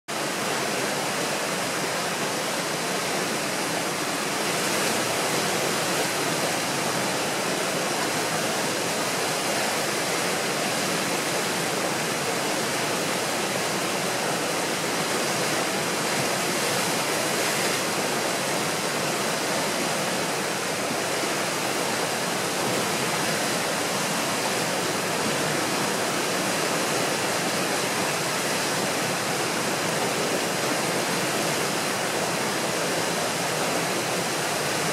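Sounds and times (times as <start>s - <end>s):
rapids roaring: 0.1s - 34.9s.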